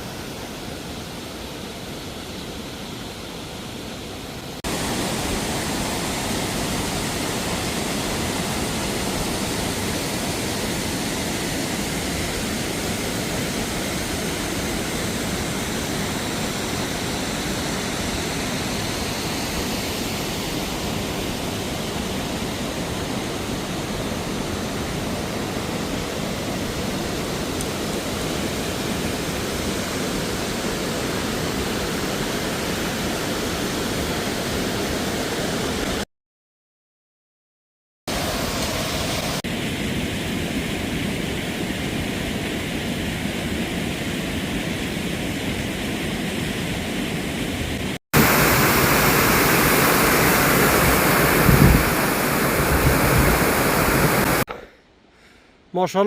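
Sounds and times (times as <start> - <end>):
steady rushing noise: 0.0 - 36.0, 38.1 - 54.5.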